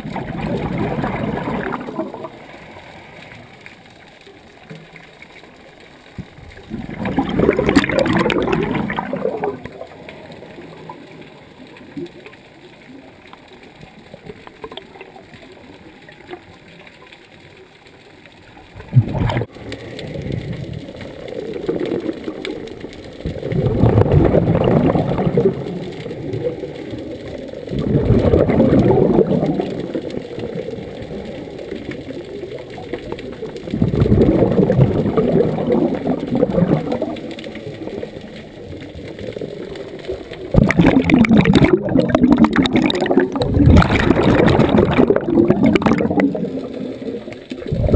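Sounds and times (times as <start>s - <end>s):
underwater regulator exhaust bubbles: 0.0s - 16.7s, 18.6s - 47.9s.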